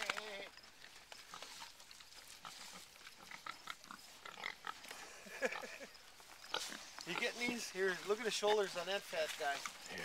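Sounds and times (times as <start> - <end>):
pigs chewing and smacking: 0.0 - 10.0.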